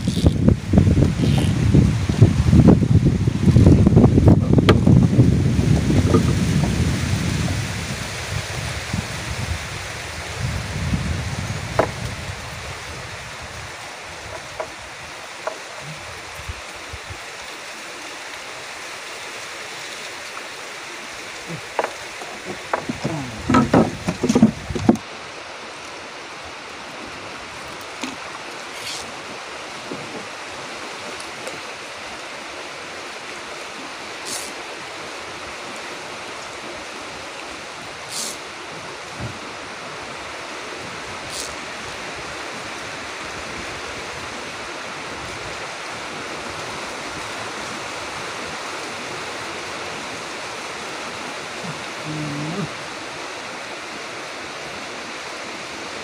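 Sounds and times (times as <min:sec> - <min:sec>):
river water hiss: 0:00.0 - 0:56.0.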